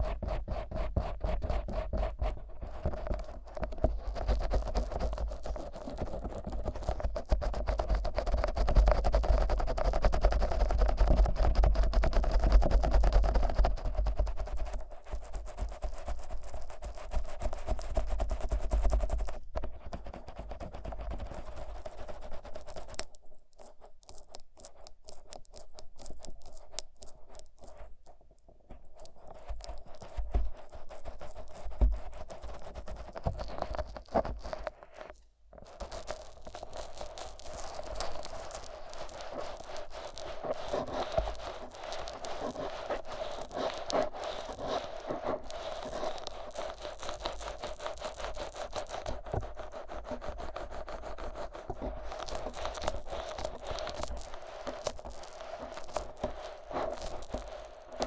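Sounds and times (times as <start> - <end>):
fingers rubbing microphone: 0.0 - 28.1, 28.7 - 58.0.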